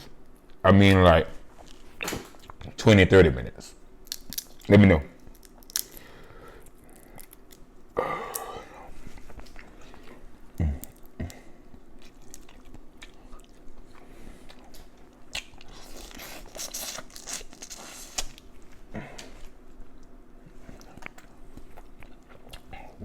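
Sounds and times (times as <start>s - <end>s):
crunchy chewing: 3.6s - 23.0s.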